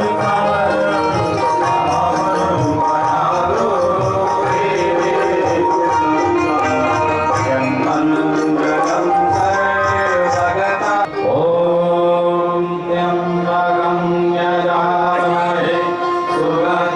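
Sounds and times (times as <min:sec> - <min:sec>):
tabla: 0:00.0 - 0:16.9.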